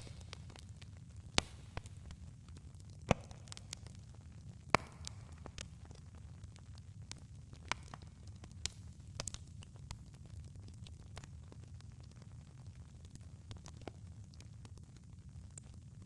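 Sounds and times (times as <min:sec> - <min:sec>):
campfire rumble: 0:00.0 - 0:16.0.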